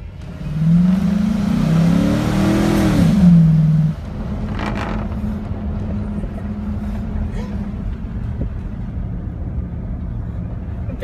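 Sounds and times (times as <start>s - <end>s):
car running inside cabin: 0.0s - 11.0s.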